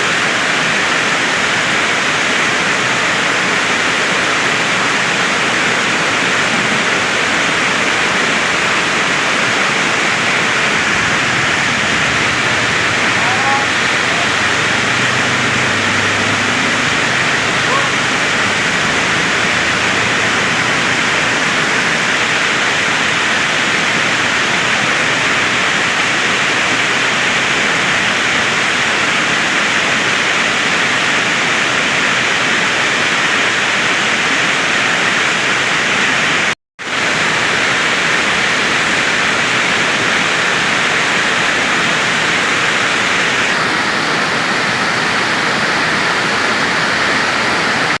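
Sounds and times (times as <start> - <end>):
heavy rain hissing: 0.0 - 48.0.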